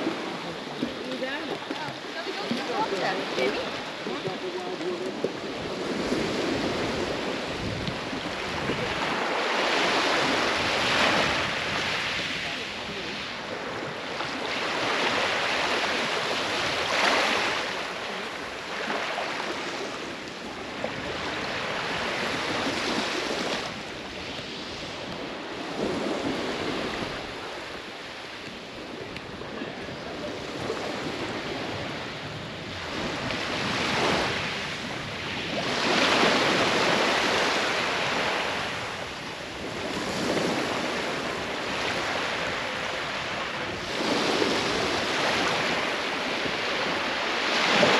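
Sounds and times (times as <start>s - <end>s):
small waves on sand beach: 0.0s - 47.9s.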